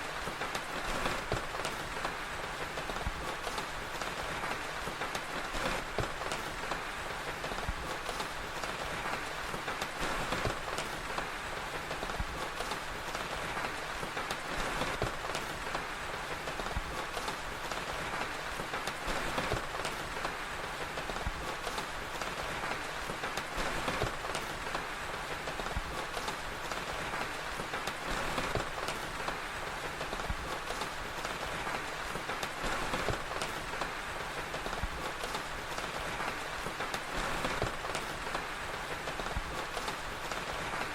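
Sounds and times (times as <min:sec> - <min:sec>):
fire crackling: 0:00.0 - 0:40.9
steady rain: 0:00.0 - 0:40.9.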